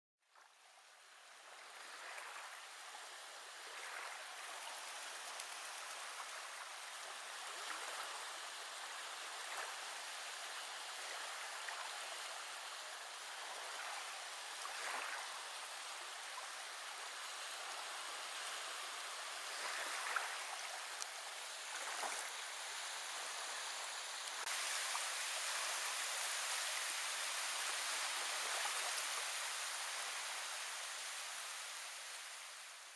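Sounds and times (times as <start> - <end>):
running water rushing: 0.4 - 32.9.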